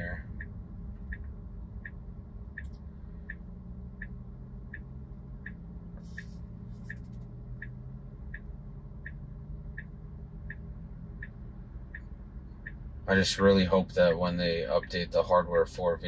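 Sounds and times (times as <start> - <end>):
car turn signal ticking: 0.0 - 15.4
low cabin hum: 0.0 - 16.0.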